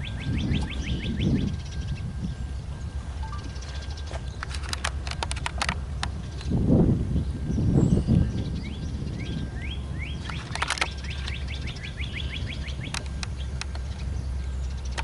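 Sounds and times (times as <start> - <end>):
songbird chirping: 0.0 - 4.9, 5.8 - 15.0.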